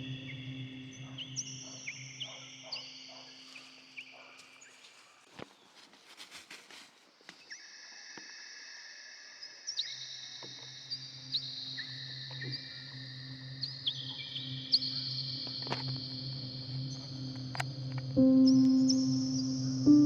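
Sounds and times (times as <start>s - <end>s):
soft ambient music: 0.0s - 5.7s, 7.3s - 20.0s.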